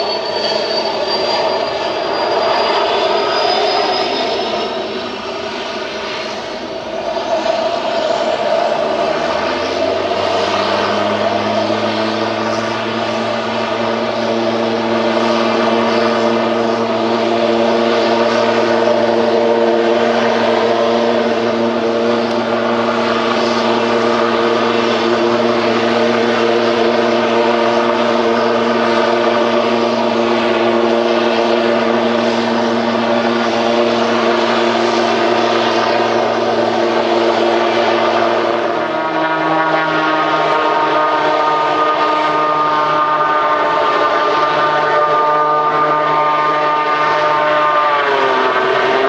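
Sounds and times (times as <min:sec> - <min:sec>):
higher whine: 0:00.0 - 0:49.0
turboprop engine idling: 0:00.0 - 0:49.0.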